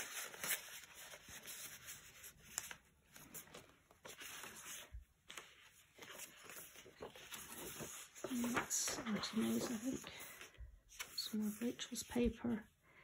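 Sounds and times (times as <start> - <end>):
paper rustling: 0.0 - 12.4.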